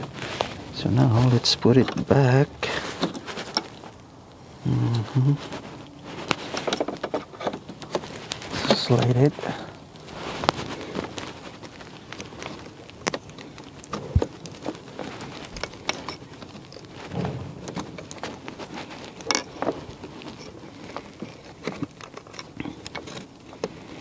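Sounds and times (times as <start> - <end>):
metal and plastic parts rattling: 0.0 - 4.0, 5.4 - 24.0.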